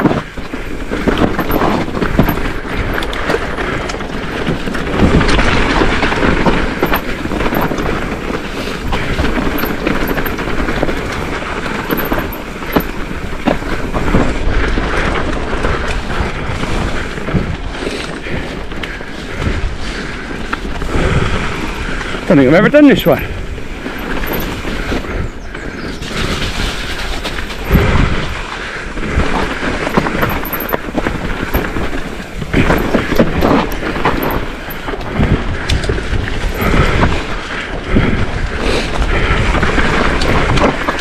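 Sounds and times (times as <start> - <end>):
bike frame and chain rattling: 0.0 - 18.7, 20.5 - 25.3, 26.0 - 37.7, 39.4 - 41.0
bike tyres rumbling over rocks: 0.0 - 41.0.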